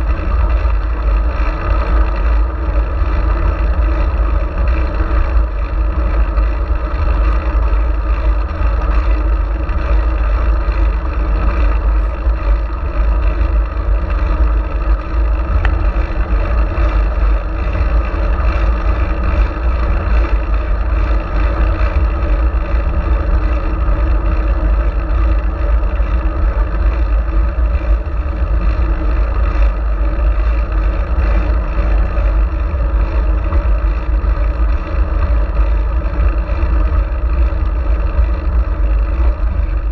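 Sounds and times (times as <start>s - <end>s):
road rumble: 0.0s - 39.9s.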